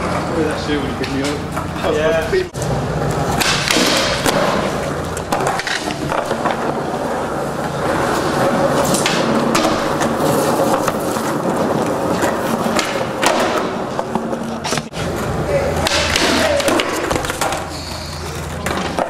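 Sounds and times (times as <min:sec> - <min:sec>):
skateboard wheels rolling on concrete: 0:00.0 - 0:19.0
skateboard clacks: 0:02.5 - 0:19.0.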